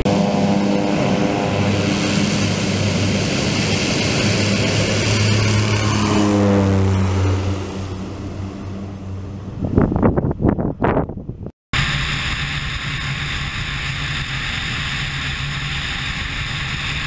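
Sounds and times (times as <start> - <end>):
turboprop plane taking off: 0.0 - 17.0.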